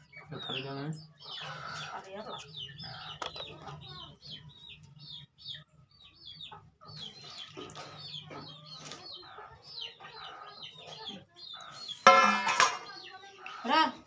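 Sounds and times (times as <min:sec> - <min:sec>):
chickens clucking and peeping: 0:00.0 - 0:14.0.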